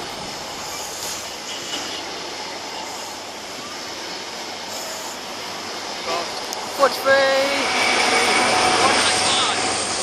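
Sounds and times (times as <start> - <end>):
train wheels rushing on rails: 0.0 - 10.0.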